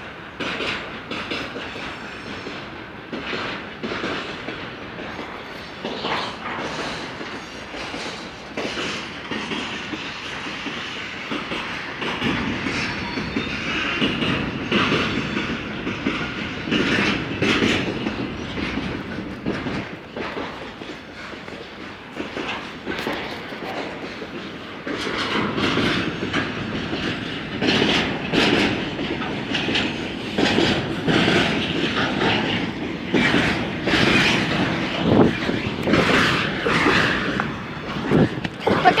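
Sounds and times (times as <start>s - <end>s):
train wheels clattering: 0.0s - 39.0s.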